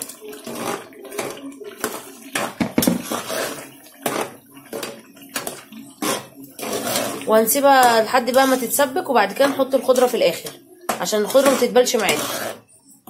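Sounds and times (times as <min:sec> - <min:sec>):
spoon scraping and clinking pot: 0:00.0 - 0:12.7
spoon stirring wet food in pot: 0:00.0 - 0:13.0.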